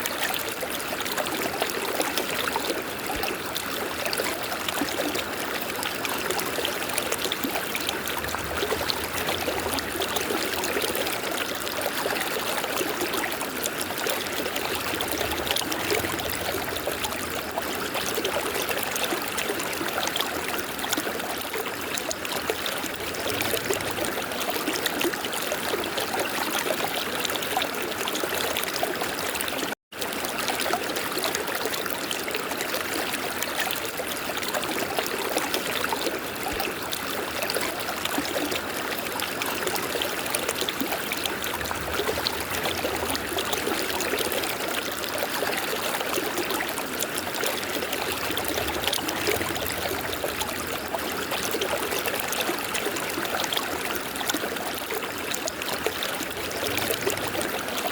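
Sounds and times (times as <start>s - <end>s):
river water flowing: 0.0s - 57.9s.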